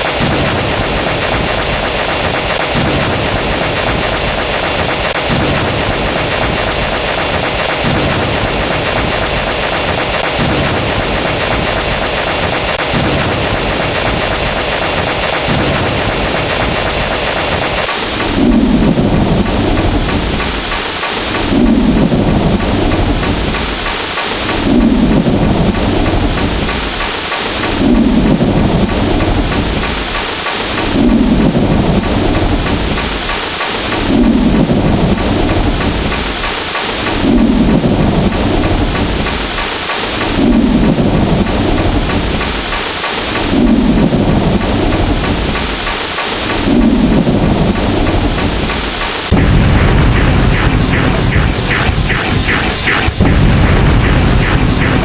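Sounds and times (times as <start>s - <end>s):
rain hissing: 0.0s - 55.0s
thunder rumbling: 0.0s - 55.0s.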